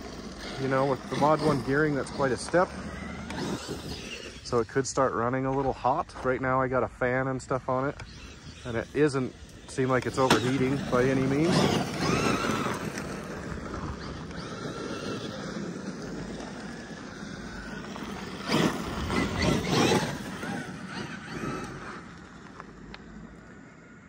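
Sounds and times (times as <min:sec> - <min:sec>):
electric motor whining: 0:00.0 - 0:06.3, 0:07.7 - 0:24.0
tyres rushing on gravel: 0:00.0 - 0:22.9.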